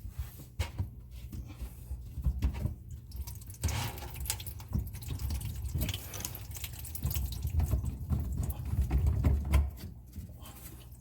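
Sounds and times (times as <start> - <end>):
water splashing in sink: 2.0 - 11.0.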